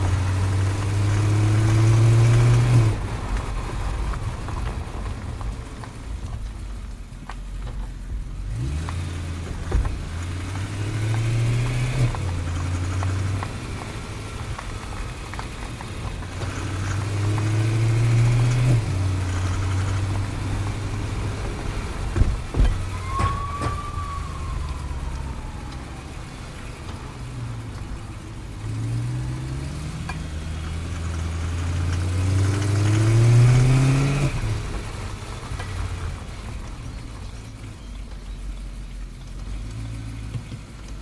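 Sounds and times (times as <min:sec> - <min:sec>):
car engine drone: 0:00.0 - 0:41.0.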